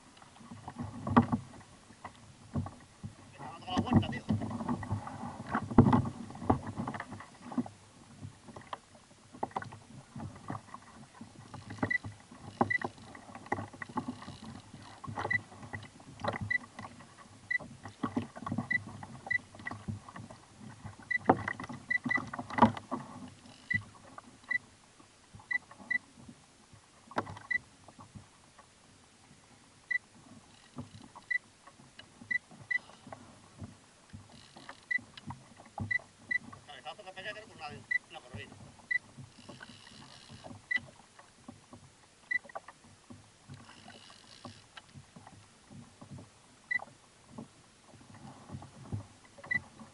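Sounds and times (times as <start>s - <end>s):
water slapping against kayak hull: 0.0s - 49.9s.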